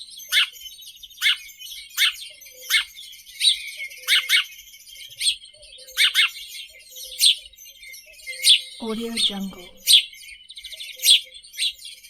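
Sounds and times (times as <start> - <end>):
sparrow chirping: 0.0 - 12.0.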